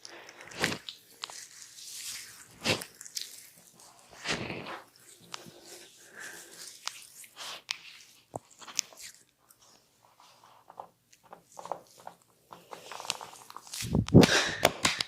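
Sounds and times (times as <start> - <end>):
hands rubbing oiled hair: 0.8 - 15.0.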